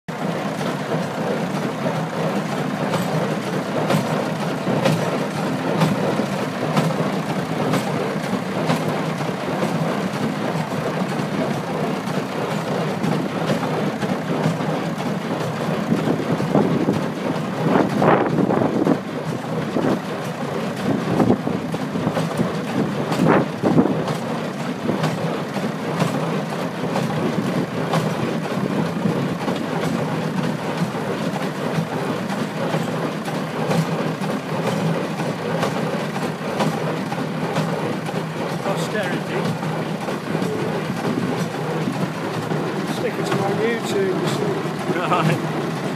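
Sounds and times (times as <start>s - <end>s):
tractor engine running: 0.1s - 45.9s.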